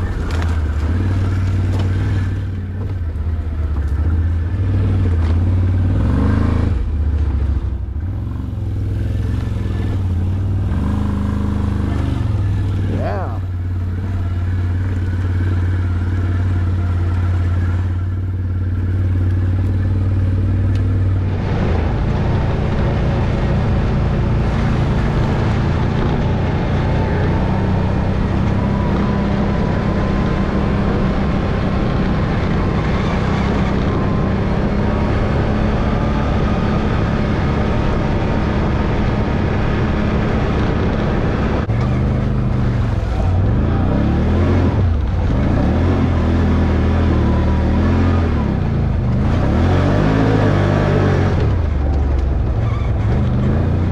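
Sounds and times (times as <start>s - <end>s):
off-road vehicle engine: 0.0s - 53.9s.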